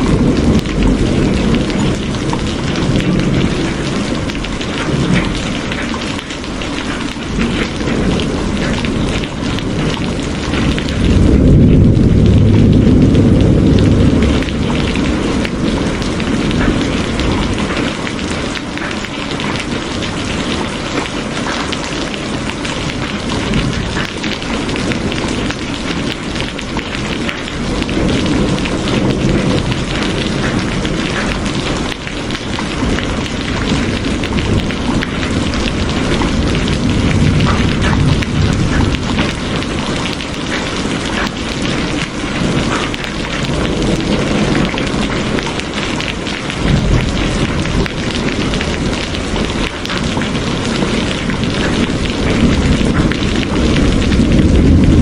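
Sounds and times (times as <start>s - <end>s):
low rumble of thunder: 0.0s - 55.0s
rain pattering: 0.0s - 55.0s.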